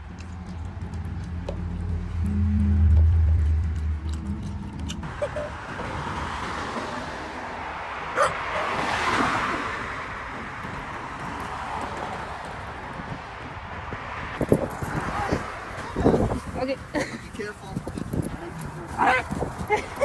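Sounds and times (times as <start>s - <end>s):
car passing: 0.0s - 20.0s
road noise: 0.0s - 20.0s.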